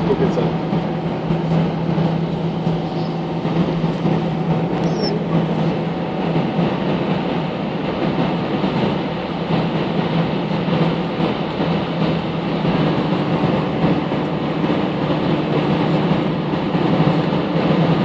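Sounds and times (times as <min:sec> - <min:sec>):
jet engines droning: 0:00.0 - 0:18.0.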